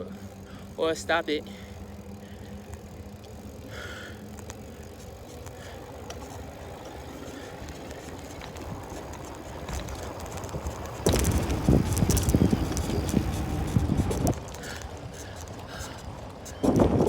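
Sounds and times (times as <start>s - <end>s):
bicycle rumbling: 0.0s - 17.0s
faint clicks: 1.6s - 17.0s.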